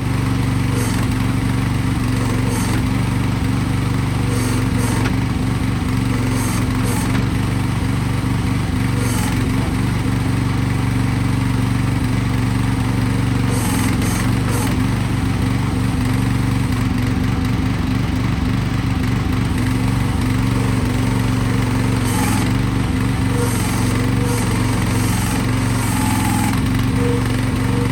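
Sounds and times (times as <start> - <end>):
excavator engine running: 0.0 - 27.9.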